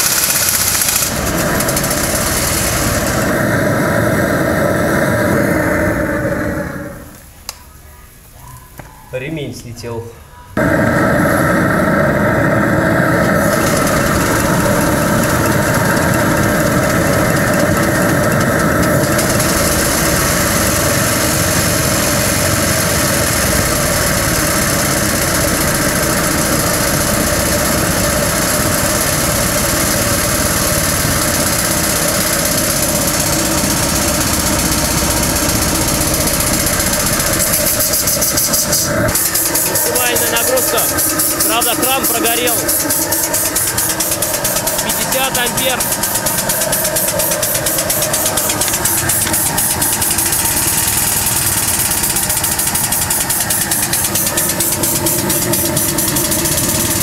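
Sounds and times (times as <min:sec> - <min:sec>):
steam hissing from valve: 0:00.0 - 0:07.3, 0:10.6 - 0:57.0
steam engine running: 0:00.0 - 0:07.4, 0:10.6 - 0:57.0.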